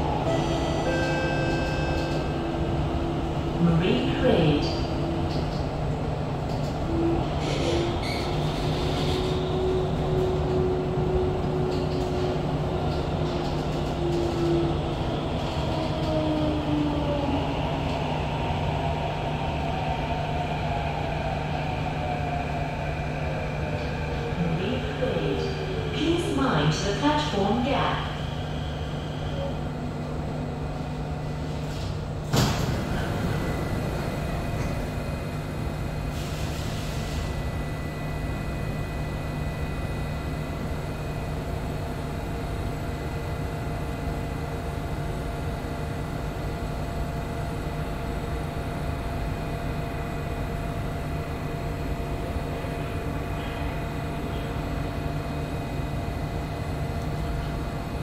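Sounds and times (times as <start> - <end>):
train ventilation and running hum: 0.0 - 58.0.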